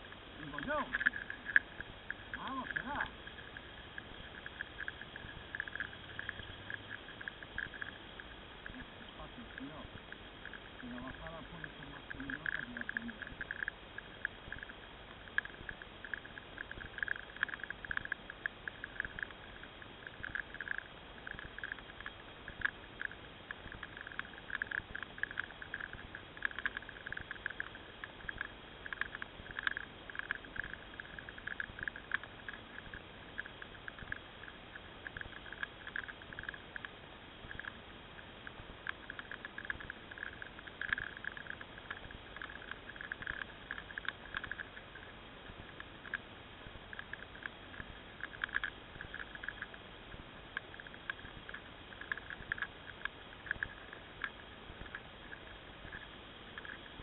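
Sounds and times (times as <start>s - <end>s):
crackling vibration buzz: 0.0s - 57.0s
sharp clicks and rattle: 0.0s - 57.0s.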